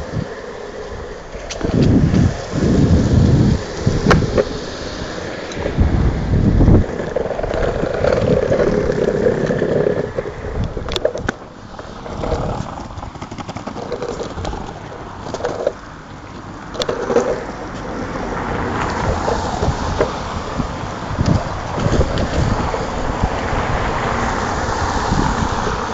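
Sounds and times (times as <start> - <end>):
wind buffeting microphone: 0.0 - 15.7, 16.8 - 25.9
longboard wheels on wet pavement: 0.0 - 25.9.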